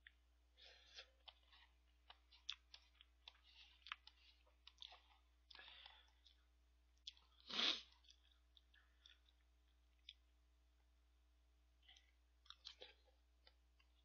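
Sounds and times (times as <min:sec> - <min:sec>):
mouth and chewing noises: 0:00.0 - 0:10.3, 0:11.8 - 0:14.0.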